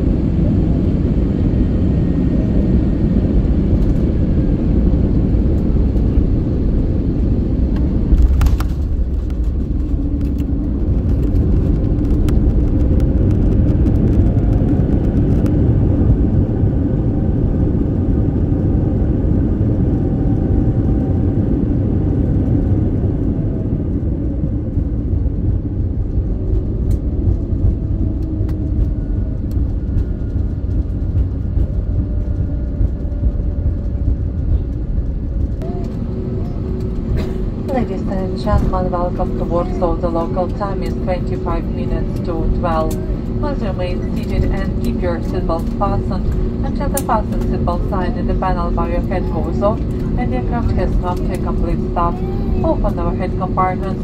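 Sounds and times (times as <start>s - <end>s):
jet engines reverse thrust: 0.0s - 54.0s
landing gear rumbling on runway: 0.1s - 54.0s.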